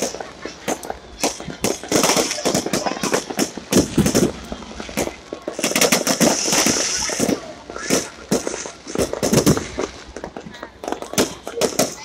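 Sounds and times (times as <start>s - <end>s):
crowd voices: 0.0s - 12.0s
fireworks bangs and crackles: 0.0s - 12.0s.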